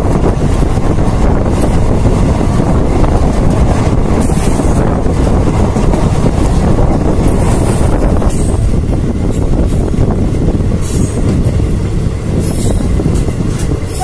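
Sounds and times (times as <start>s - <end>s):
train rumbling on track: 0.0s - 14.0s
wind buffeting microphone: 0.0s - 14.0s.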